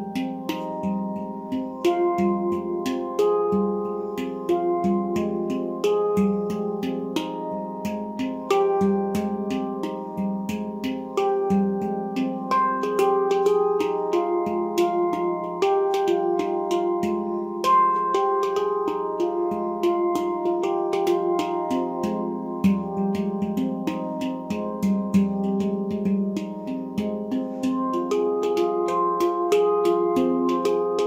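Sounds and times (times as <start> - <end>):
handpan notes ringing: 0.0 - 31.0.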